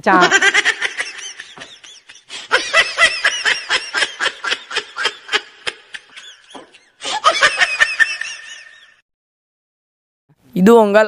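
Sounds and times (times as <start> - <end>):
hearty laughter: 0.2 - 9.0.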